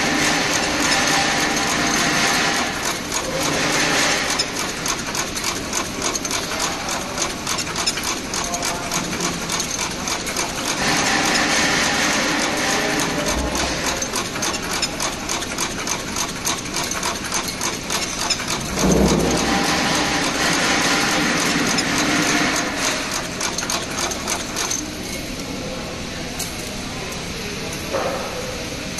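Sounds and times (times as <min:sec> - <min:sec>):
machine clicking rapidly: 0:00.0 - 0:25.2
machine whirring: 0:00.0 - 0:28.9.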